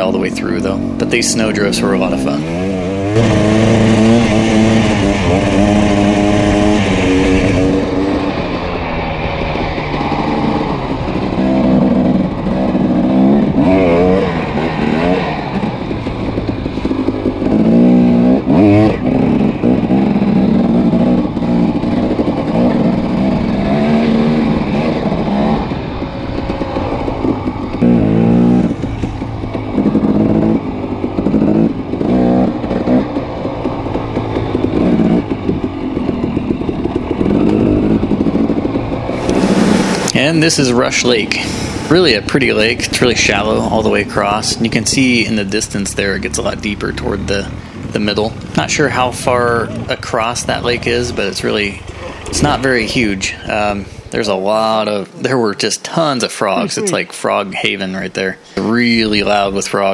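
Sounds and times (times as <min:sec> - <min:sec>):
dirt bike engine revving: 0:00.0 - 0:55.5, 0:56.4 - 0:59.9.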